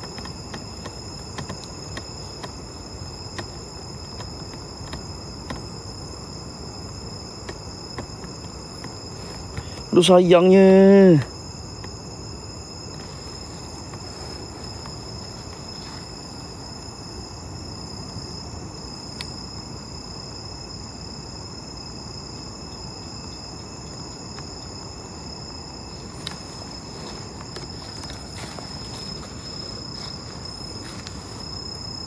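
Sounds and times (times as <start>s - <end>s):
background hiss: 0.0s - 32.0s
crickets trilling: 0.0s - 32.0s.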